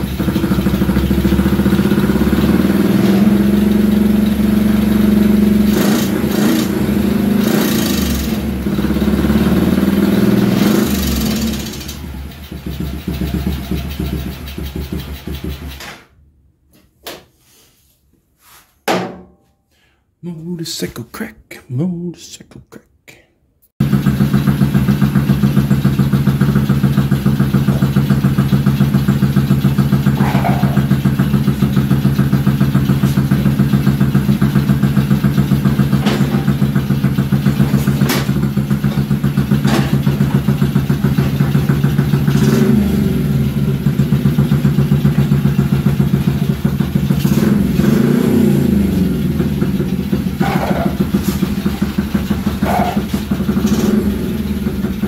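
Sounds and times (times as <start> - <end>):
small engine idling: 0.0 - 15.9, 23.8 - 55.0.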